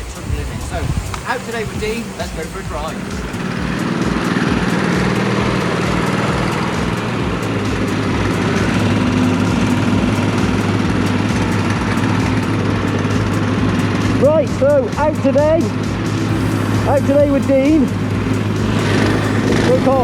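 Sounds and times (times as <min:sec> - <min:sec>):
go-kart engine running: 0:00.0 - 0:20.0.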